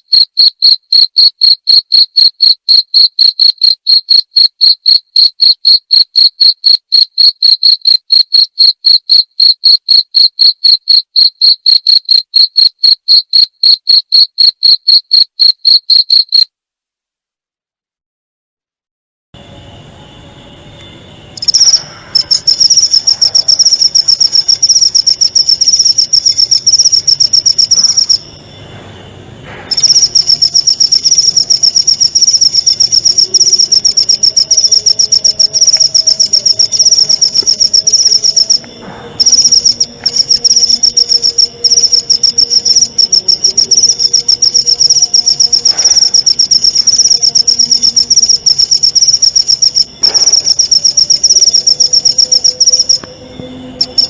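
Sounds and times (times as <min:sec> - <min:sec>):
insect high-pitched pulsed trill: 0:00.0 - 0:16.5, 0:19.4 - 0:28.7, 0:29.5 - 0:54.0.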